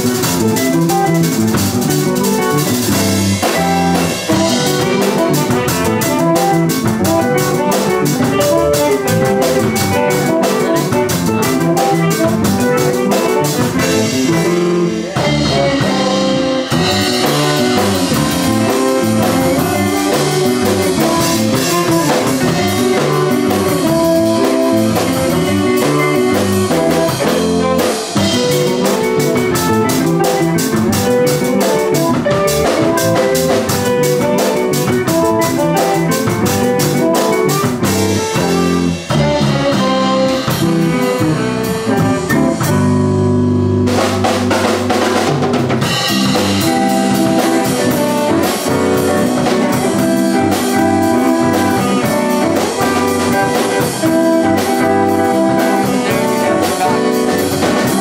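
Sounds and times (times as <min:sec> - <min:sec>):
drums and cymbals beat: 0:00.0 - 0:58.0
saxophone: 0:00.0 - 0:58.0.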